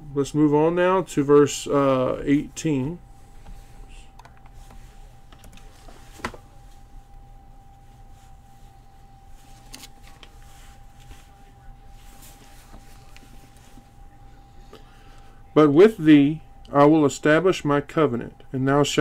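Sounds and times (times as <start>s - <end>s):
high-pitched electrical hum: 0.0s - 19.0s.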